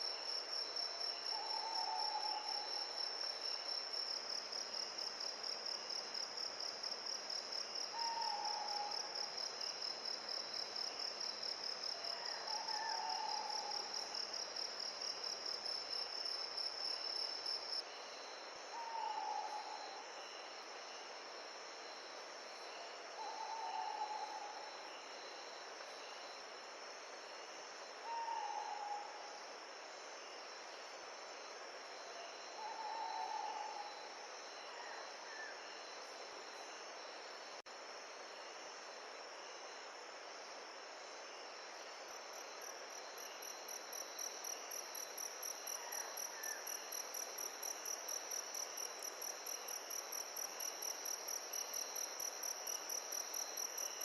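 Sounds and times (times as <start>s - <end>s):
gentle wind: 0.0s - 54.0s.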